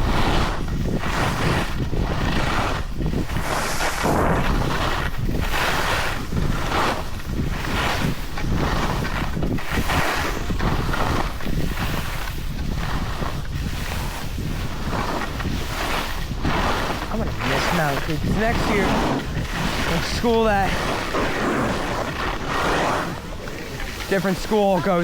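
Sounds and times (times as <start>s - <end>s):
skis scraping on snow: 0.0s - 25.0s
wind rumble on microphone: 0.0s - 25.0s.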